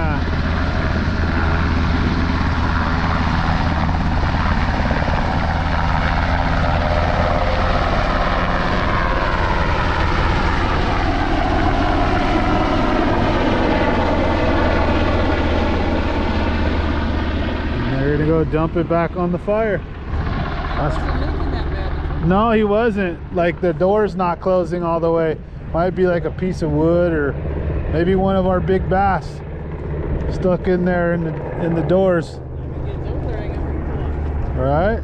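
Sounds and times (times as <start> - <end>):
helicopter rotor hum: 0.0 - 35.0.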